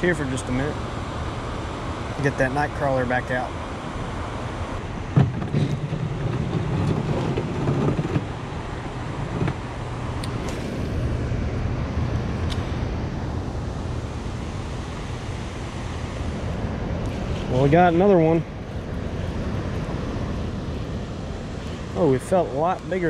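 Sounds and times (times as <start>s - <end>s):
low rumble and rushing noise: 0.0s - 23.0s.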